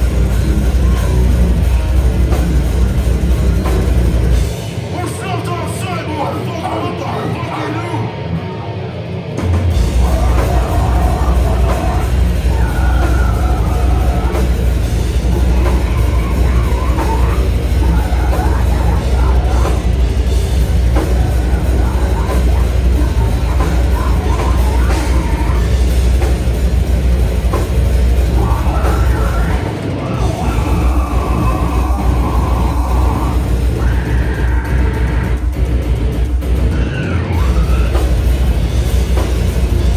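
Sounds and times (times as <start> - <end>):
death metal band playing live: 0.0 - 39.9.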